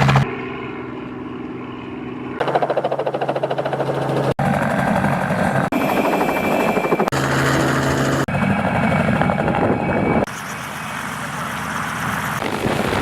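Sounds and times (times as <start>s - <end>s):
helicopter rotor chop: 0.0s - 13.0s.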